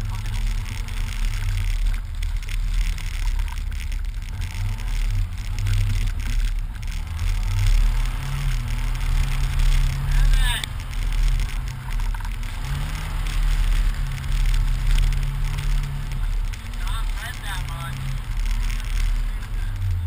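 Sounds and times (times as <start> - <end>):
car engine revving: 0.0 - 20.0
wind rumble on microphone: 0.0 - 20.0.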